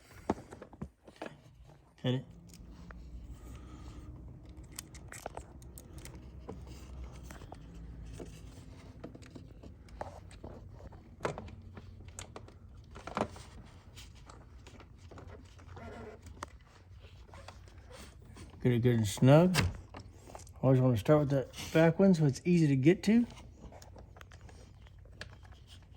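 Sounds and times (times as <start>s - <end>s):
plastic parts clicking and rustling: 0.0s - 18.6s, 23.1s - 25.9s
low steady hum: 1.6s - 25.9s.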